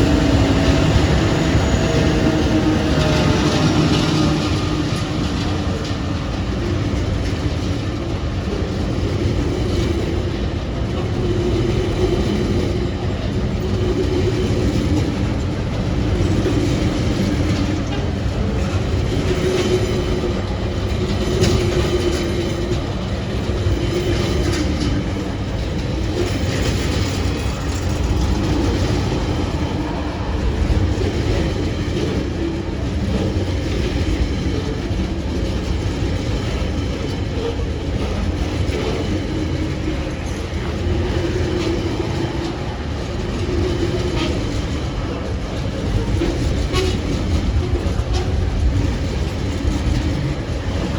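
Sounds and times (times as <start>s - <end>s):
freight train rumbling past: 0.0s - 50.9s
wheels clattering over rail joints: 0.0s - 50.9s.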